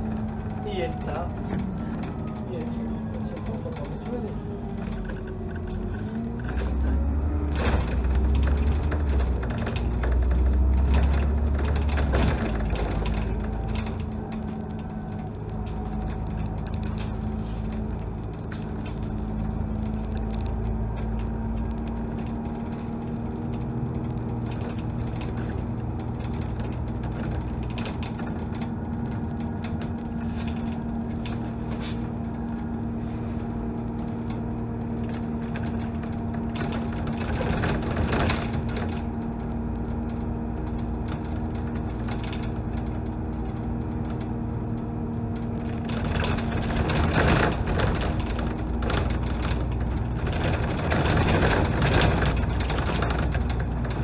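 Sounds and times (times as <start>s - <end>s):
bus body rattling: 0.0s - 54.0s
bus engine hum with whine: 0.0s - 54.0s.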